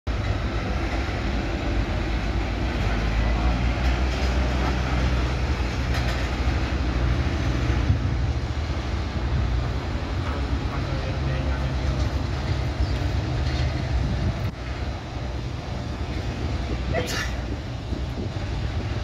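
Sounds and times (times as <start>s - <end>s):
jet engines idling: 0.1s - 19.0s.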